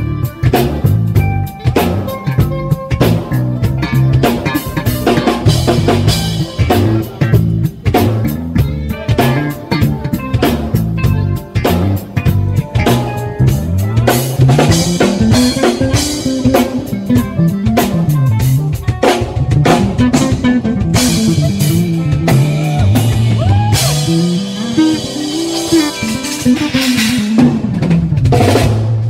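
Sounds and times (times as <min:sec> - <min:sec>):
drum kit: 0:00.0 - 0:29.0
electric bass: 0:00.0 - 0:29.0
guitar: 0:00.0 - 0:29.0.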